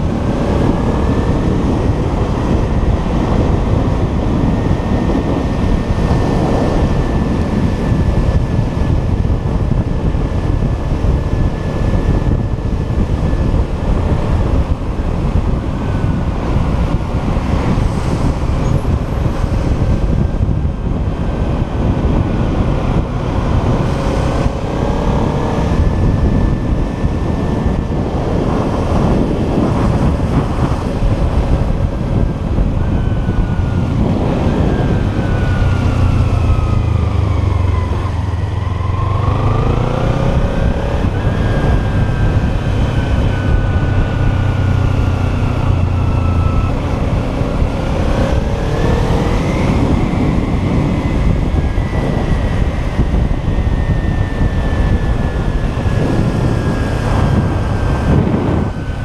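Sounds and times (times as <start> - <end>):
motorcycle engine running: 0.0 - 59.0
road noise: 0.0 - 59.0
wind noise: 0.0 - 59.0.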